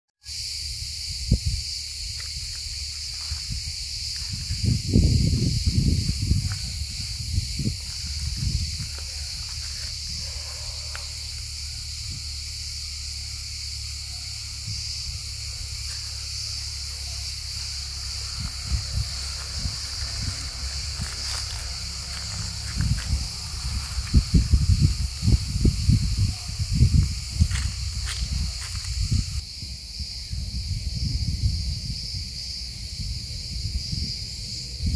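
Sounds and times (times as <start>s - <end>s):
cicadas chirring: 0.2s - 34.9s
low rumbling on microphone: 0.7s - 34.9s.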